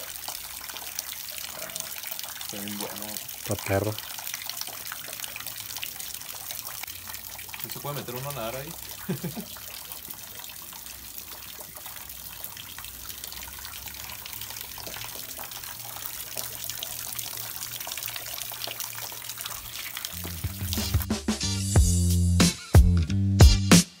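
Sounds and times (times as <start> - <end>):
water trickling into a pool: 0.0 - 21.1.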